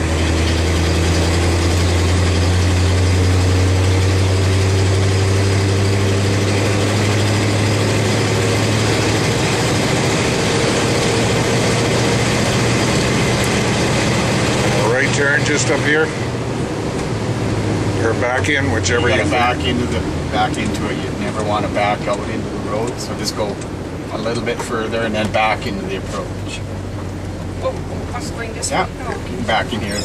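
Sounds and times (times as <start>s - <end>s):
truck engine droning from inside cab: 0.0s - 30.0s.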